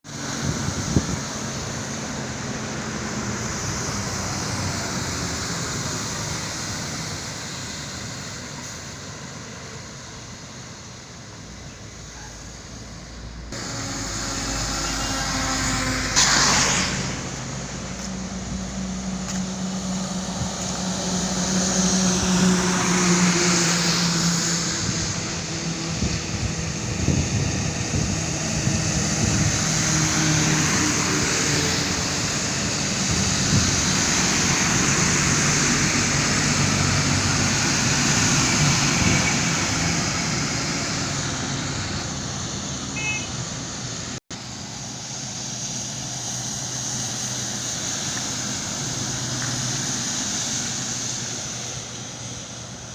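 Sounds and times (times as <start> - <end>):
road noise: 0.0 - 52.9
truck engine: 0.1 - 52.9.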